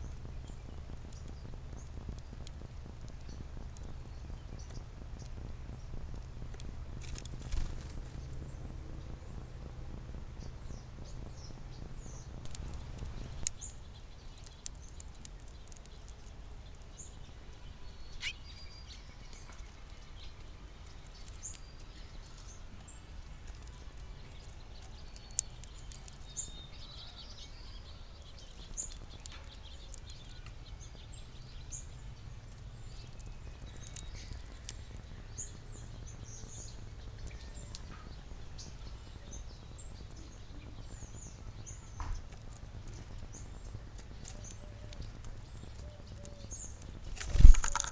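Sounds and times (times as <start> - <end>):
low background rumble: 0.0 - 47.9
songbirds chirping: 0.0 - 47.9.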